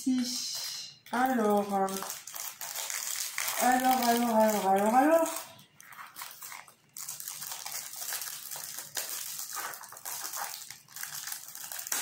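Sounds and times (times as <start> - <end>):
plastic wrapping crinkling: 0.4 - 12.0.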